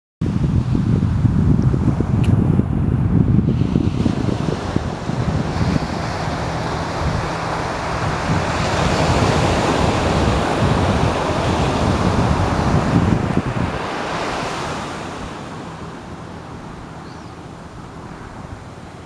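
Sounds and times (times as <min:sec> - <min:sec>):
waves breaking on beach: 0:00.2 - 0:19.0
wind buffeting microphone: 0:00.2 - 0:19.0.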